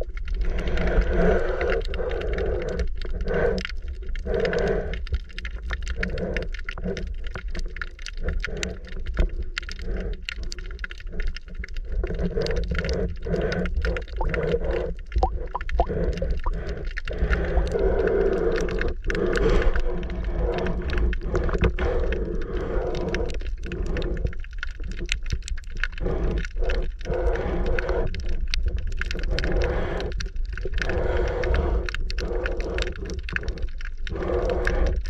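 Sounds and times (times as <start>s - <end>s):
underwater clicks and crackles: 0.0s - 35.0s
underwater rumble of water: 0.0s - 35.0s.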